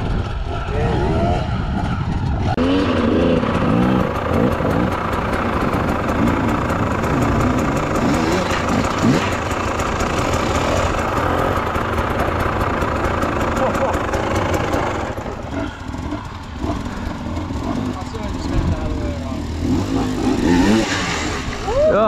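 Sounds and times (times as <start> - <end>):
dirt bike engine running steadily: 0.0 - 22.0
dirt bike engines revving: 0.0 - 22.0.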